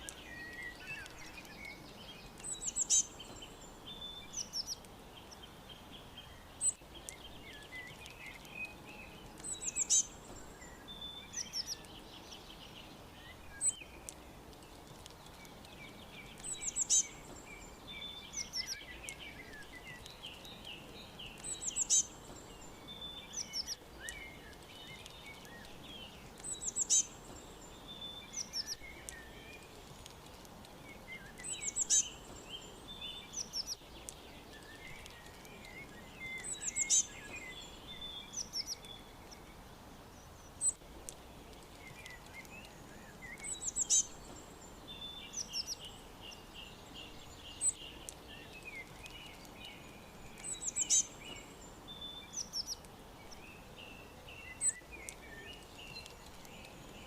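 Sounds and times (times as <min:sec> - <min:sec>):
background hiss: 0:00.0 - 0:57.0
birds chirping and twittering: 0:00.0 - 0:57.0.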